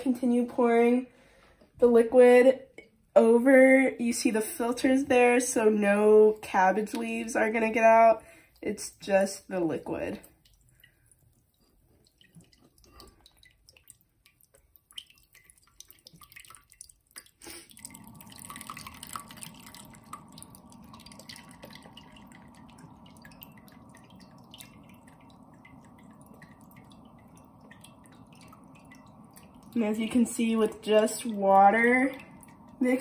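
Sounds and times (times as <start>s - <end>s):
faint water trickle: 0.0s - 33.0s
water dripping: 4.0s - 33.0s.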